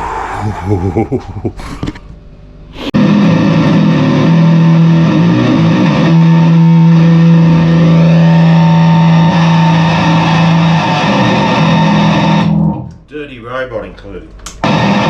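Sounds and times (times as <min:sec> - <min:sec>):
fuzzed bass guitar notes: 0:00.4 - 0:13.0, 0:14.6 - 0:15.0.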